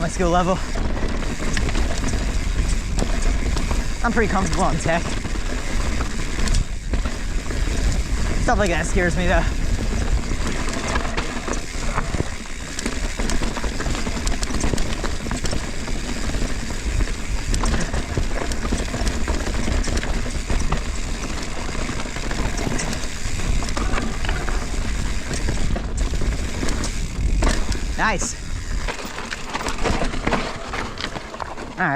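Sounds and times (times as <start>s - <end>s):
bike clicks and rattles: 0.0s - 31.9s
bike tyres rumbling on rocks: 0.0s - 31.9s.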